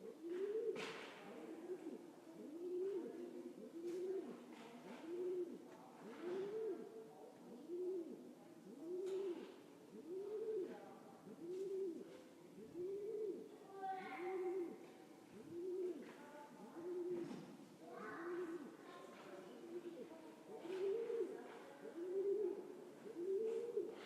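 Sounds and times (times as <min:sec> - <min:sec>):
pigeon cooing: 0:00.0 - 0:24.0.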